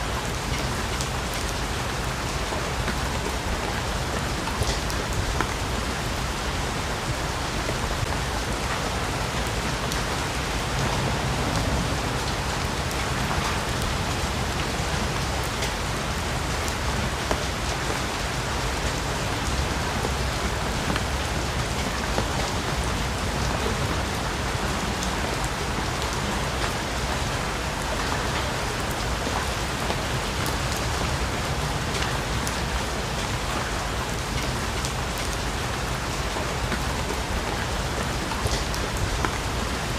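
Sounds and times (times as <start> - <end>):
heavy rain on foliage: 0.0 - 39.9
rain drops ticking: 0.0 - 39.9.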